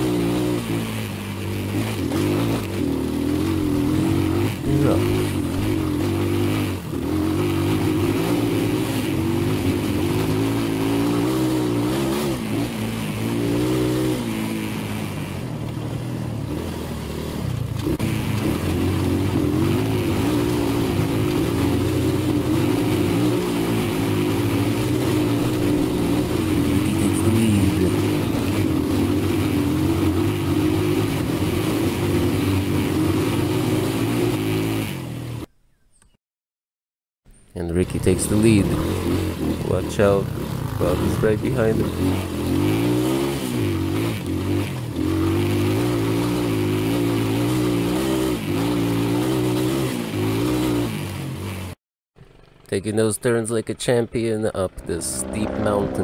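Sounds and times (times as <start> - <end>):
motorcycle engines revving: 0.0 - 35.5, 37.6 - 56.0.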